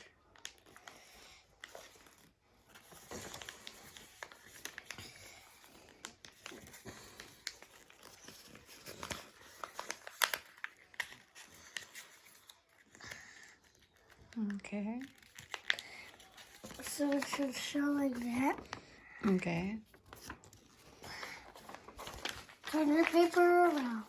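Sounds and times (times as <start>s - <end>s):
paper rustling and crinkling: 0.0s - 24.0s.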